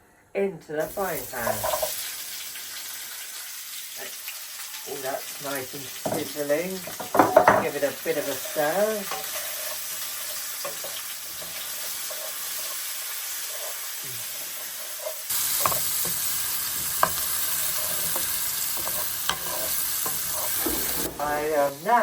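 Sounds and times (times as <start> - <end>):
vegetables sizzling in oil: 0.8 - 22.0.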